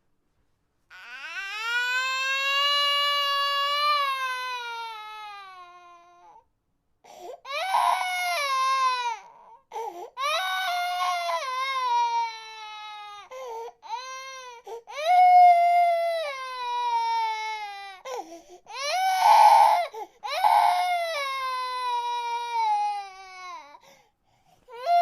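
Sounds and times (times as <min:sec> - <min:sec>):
infant crying: 0:00.9 - 0:06.4, 0:07.1 - 0:23.9, 0:24.7 - 0:25.0.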